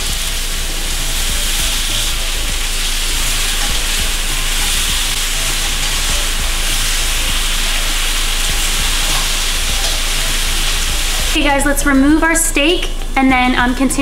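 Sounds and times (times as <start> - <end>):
steak sizzling in hot oil: 0.0 - 11.4.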